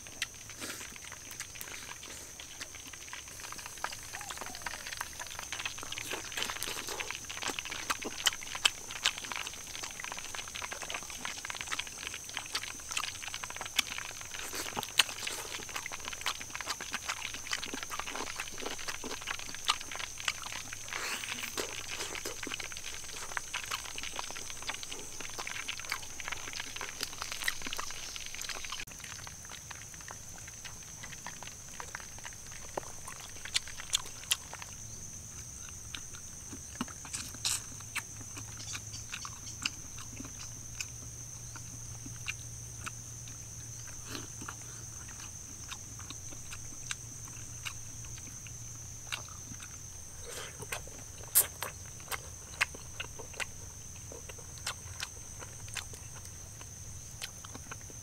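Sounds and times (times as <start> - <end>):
crunchy bites of fried chicken: 0.0 - 58.0
wet chewing and smacking: 0.0 - 58.0.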